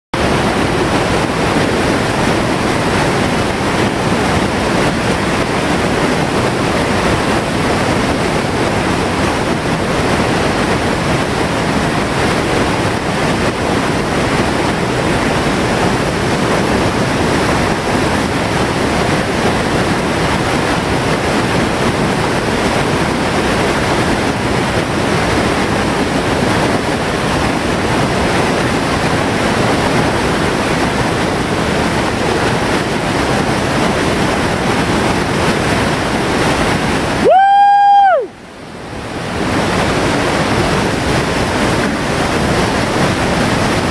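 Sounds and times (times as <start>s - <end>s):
whitewater rushing over a drop: 0.2s - 43.9s.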